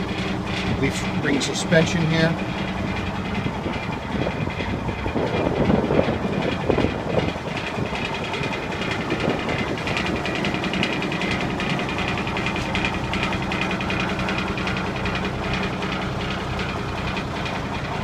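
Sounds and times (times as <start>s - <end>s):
diesel truck engine idling: 0.0s - 18.0s
loud rattling: 0.0s - 18.0s.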